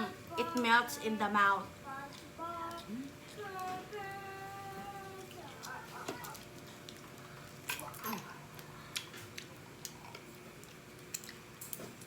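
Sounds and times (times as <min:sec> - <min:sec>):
soft chewing: 0:01.9 - 0:12.0.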